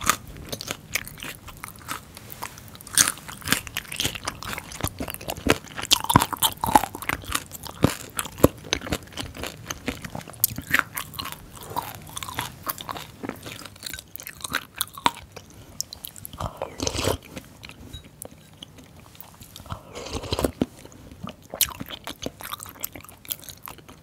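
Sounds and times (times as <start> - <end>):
crunchy chewing: 0.0 - 24.0.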